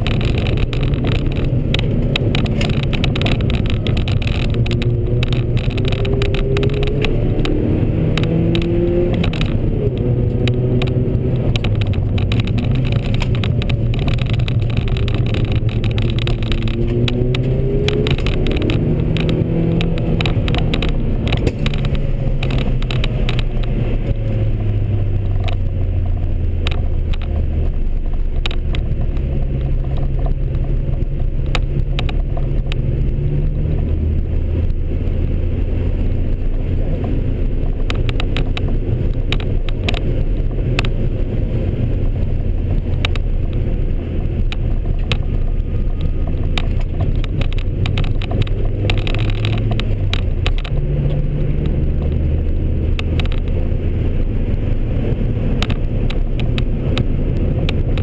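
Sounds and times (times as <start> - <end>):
car engine revving: 0.0 - 58.0
clicks and rattles: 0.0 - 58.0.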